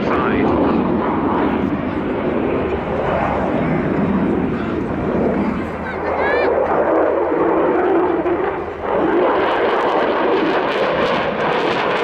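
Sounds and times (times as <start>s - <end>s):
fighter jet flying past: 0.0s - 12.0s.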